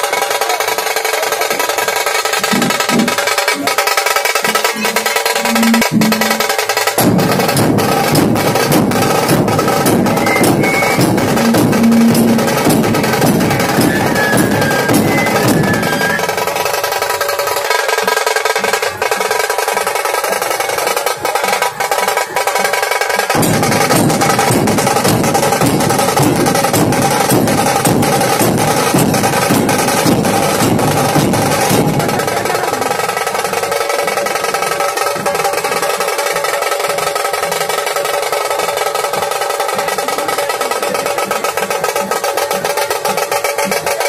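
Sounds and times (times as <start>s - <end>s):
drum rolls: 0.0s - 44.0s
deeper drum: 0.4s - 17.2s, 23.0s - 44.0s.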